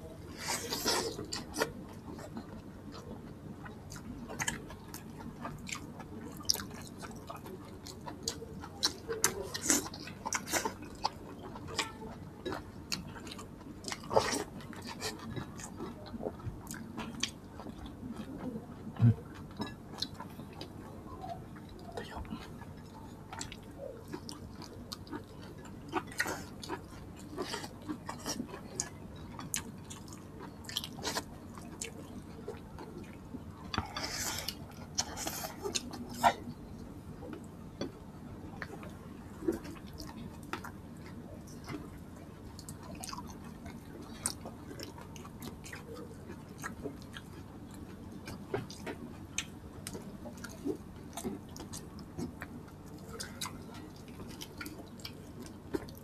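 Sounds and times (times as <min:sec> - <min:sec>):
people chewing and mouth smacks: 0:00.0 - 0:56.0.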